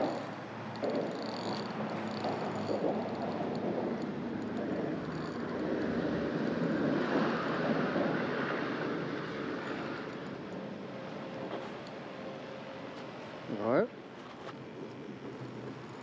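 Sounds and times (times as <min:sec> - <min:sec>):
passing vehicle rumble: 0:00.0 - 0:13.6.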